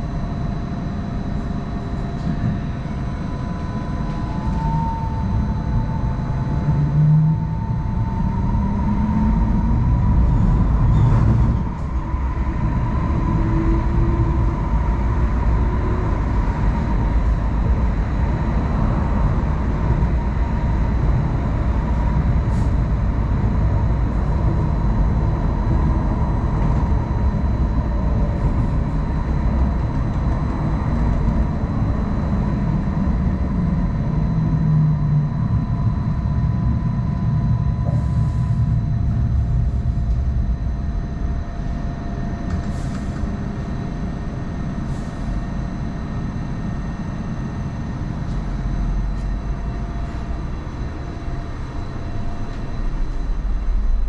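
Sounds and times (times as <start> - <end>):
high whine: 0.0 - 54.0
wheels rumbling on rail: 0.0 - 54.0.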